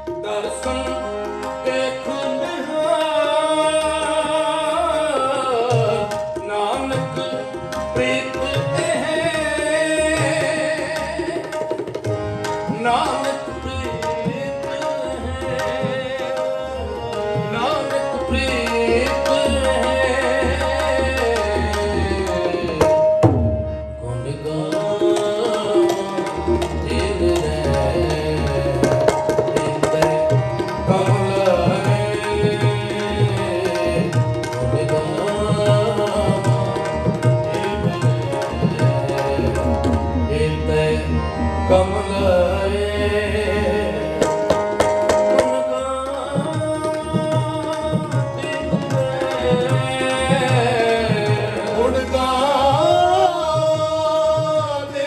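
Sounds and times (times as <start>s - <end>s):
harmonium melody: 0.0s - 55.0s
man singing: 0.0s - 55.0s
tabla drumming: 0.0s - 55.0s.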